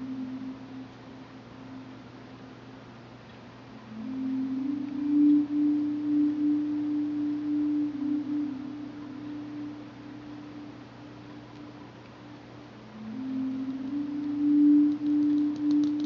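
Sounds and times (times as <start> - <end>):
low wavering drone: 0.0 - 2.7, 3.6 - 16.0.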